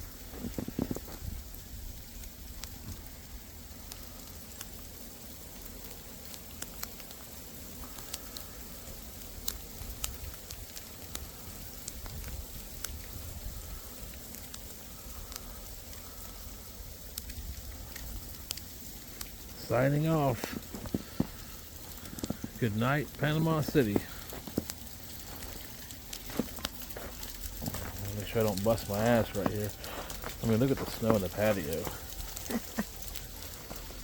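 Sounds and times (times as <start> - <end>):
ice pellets ticking: 0.0 - 34.0
sleet crackling hiss: 0.0 - 34.0.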